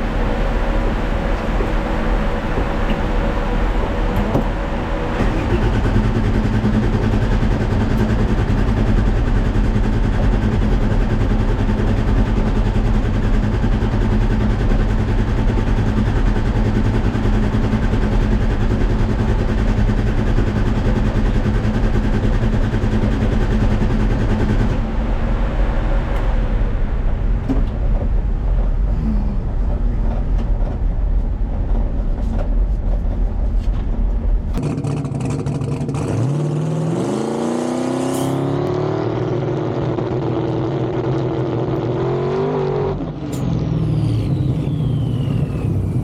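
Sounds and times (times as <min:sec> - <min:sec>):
car engine running steadily: 0:00.0 - 0:46.0
noisy rush: 0:00.0 - 0:46.0.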